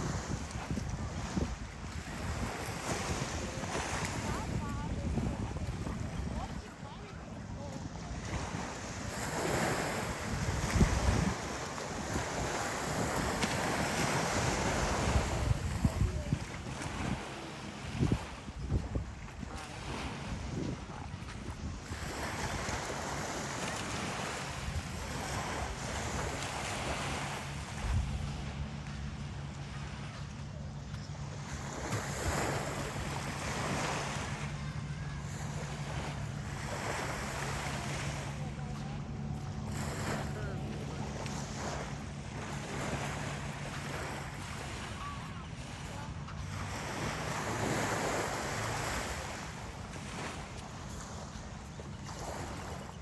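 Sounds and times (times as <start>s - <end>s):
sea surf washing onto beach: 0.0s - 30.7s, 31.3s - 52.9s
wind rumbling on microphone: 0.0s - 53.0s.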